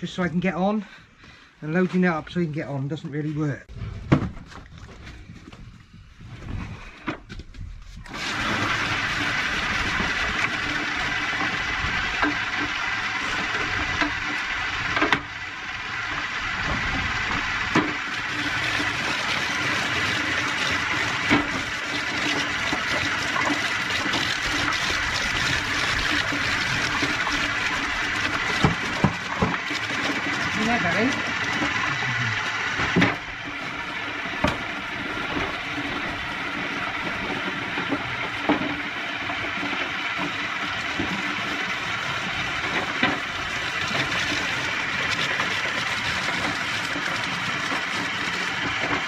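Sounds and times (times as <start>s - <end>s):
root chopper grinding: 8.0s - 49.0s.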